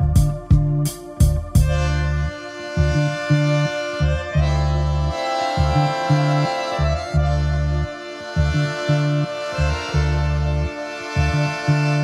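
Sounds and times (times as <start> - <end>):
bass line: 0.0 - 12.0
keyboard chords: 0.0 - 12.0.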